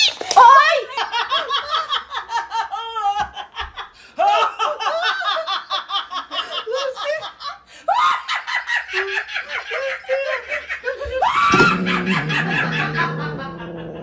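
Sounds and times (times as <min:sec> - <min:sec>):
woman laughing hard: 0:00.5 - 0:14.0.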